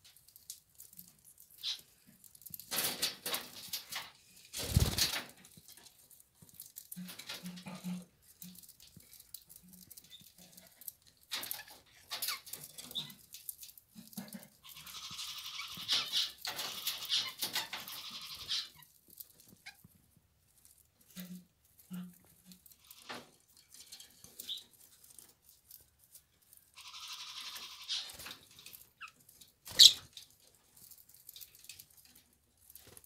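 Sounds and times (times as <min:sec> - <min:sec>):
birds cracking seeds: 0:00.1 - 0:19.9, 0:21.0 - 0:33.0.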